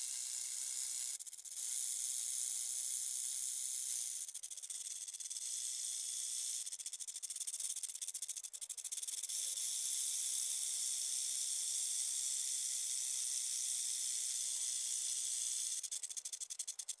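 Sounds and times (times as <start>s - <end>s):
snake rattling: 0.0s - 17.0s.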